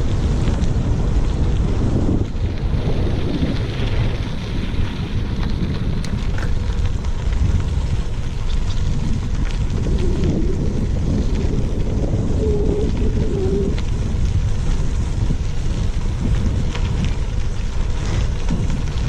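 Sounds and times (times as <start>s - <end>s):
bicycle tyres on trail: 0.0s - 19.0s
wind buffeting microphone: 0.0s - 19.0s.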